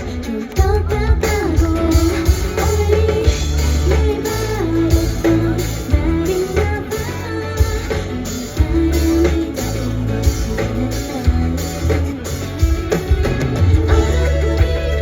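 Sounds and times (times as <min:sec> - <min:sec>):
person singing: 0:00.0 - 0:12.9
drums: 0:00.0 - 0:15.0
guitar: 0:00.0 - 0:15.0
rock band music: 0:00.0 - 0:15.0.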